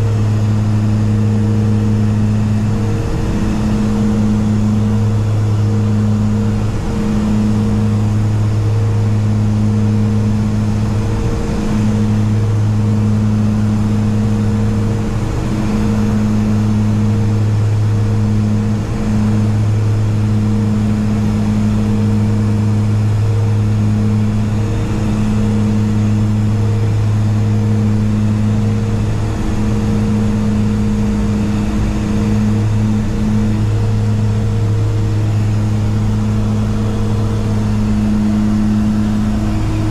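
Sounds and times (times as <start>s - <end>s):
turboprop engines humming: 0.0s - 39.9s.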